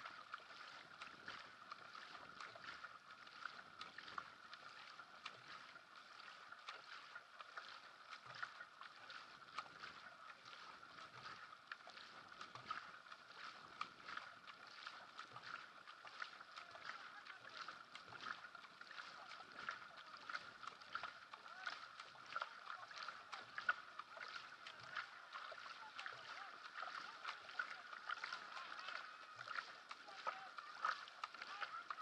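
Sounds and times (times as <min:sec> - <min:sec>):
paddle splashes: 0:00.0 - 0:32.0
water rushing along hull: 0:00.0 - 0:32.0.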